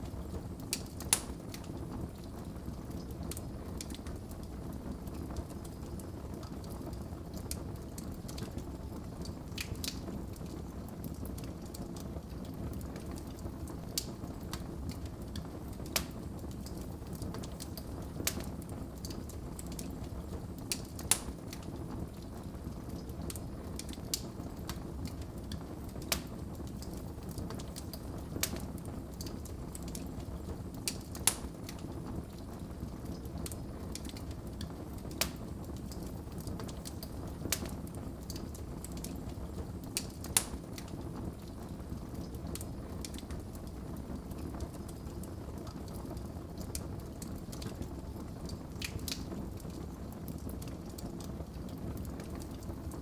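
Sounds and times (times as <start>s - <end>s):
burning logs popping and crackling: 0.0s - 53.0s
low rumble of flames: 0.0s - 53.0s.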